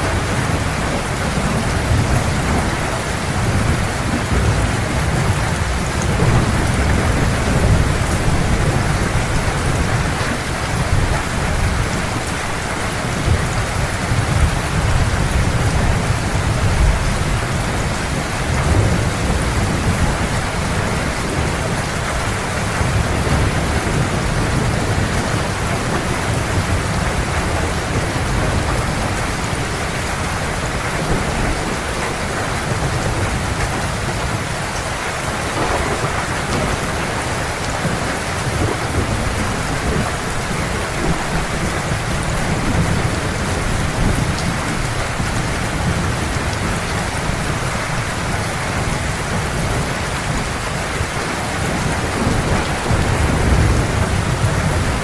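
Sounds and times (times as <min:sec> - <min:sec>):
heavy rain pouring: 0:00.0 - 0:55.0
rolling thunder rumble: 0:00.0 - 0:55.0.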